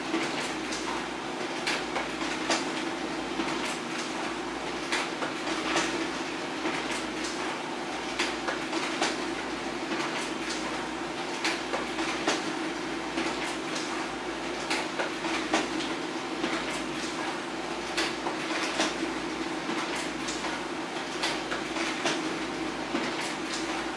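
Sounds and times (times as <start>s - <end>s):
paper feed clicks and clacks: 0.0s - 23.9s.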